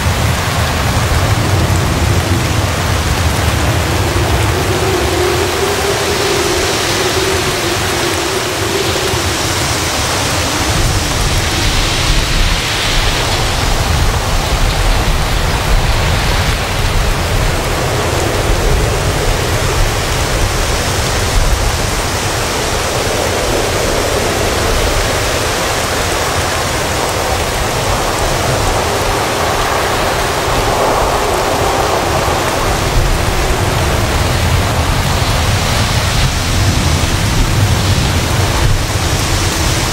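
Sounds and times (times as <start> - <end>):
heavy rain hissing: 0.0 - 39.9
wind rumbling: 0.0 - 39.9.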